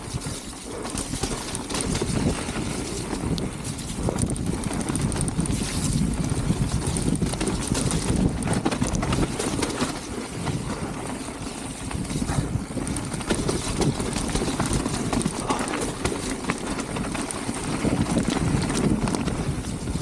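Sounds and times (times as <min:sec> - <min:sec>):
bike rattling over bumps: 0:00.0 - 0:20.0
wind buffeting microphone: 0:00.0 - 0:20.0.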